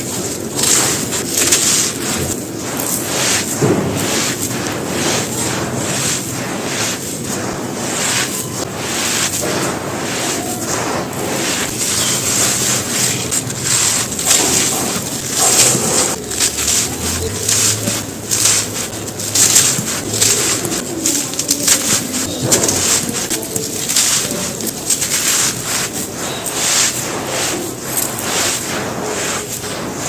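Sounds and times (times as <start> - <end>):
brittle material crumbling by hand: 0.0 - 6.1, 7.8 - 30.0.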